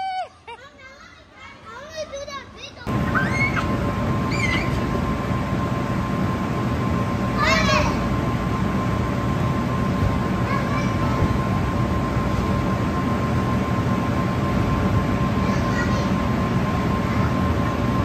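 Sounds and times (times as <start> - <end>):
low rumbling hum with whine: 2.2 - 18.0.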